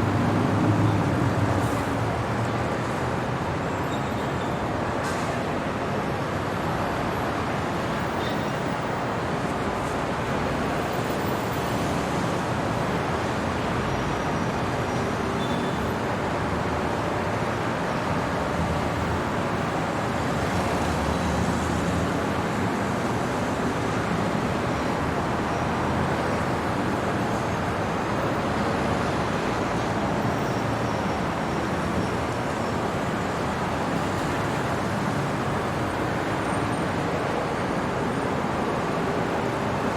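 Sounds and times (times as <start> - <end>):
road traffic hum: 0.0 - 39.9.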